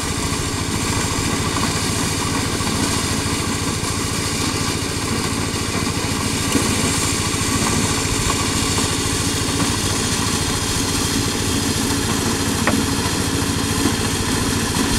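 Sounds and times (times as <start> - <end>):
small engine running: 0.0 - 14.9.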